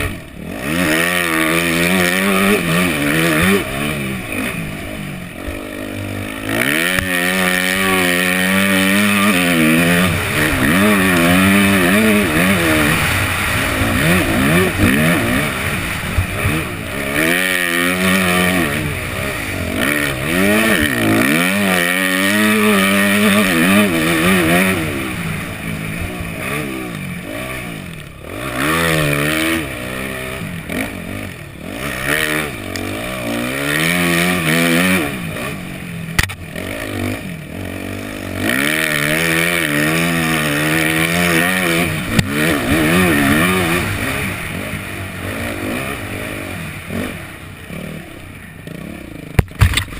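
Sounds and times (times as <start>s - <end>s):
motocross engine revving: 0.0s - 49.9s.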